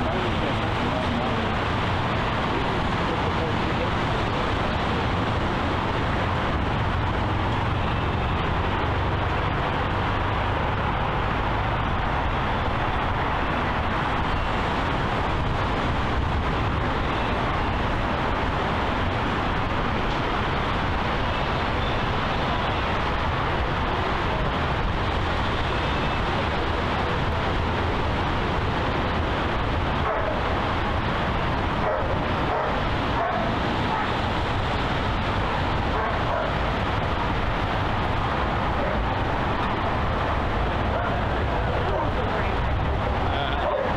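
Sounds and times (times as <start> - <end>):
outdoor background roar: 0.0 - 43.9.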